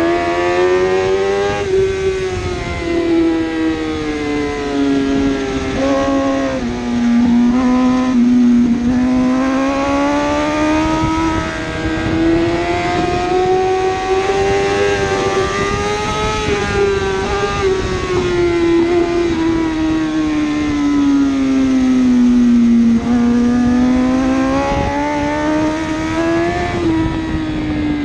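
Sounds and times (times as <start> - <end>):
motorcycle engine revving and shifting: 0.0 - 28.0.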